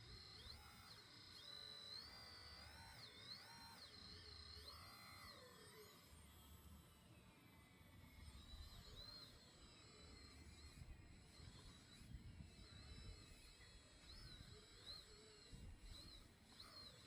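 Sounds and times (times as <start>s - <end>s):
small electric motor whine: 0.0s - 17.0s.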